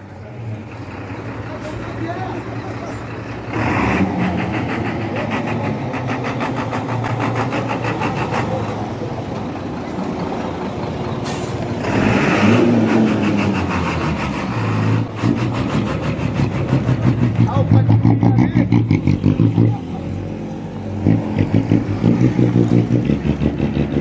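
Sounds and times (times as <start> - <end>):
diesel bus engine running: 0.0 - 24.0.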